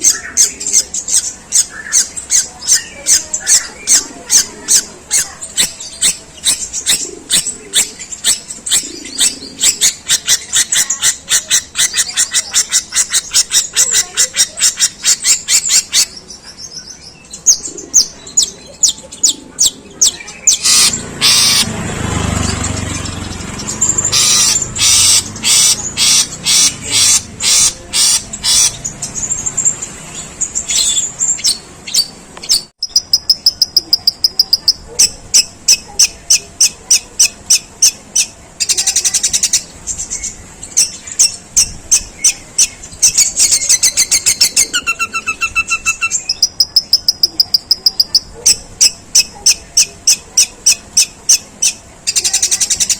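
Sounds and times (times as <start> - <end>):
bird harsh chattering song: 0.0 - 52.9.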